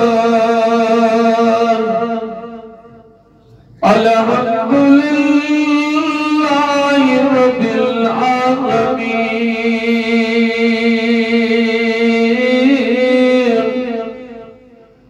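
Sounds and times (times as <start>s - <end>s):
man chanting: 0.0s - 14.9s.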